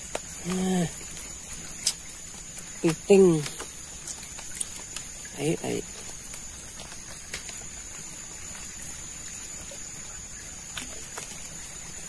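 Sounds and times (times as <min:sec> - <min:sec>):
water trickling in ditch: 0:00.0 - 0:12.0.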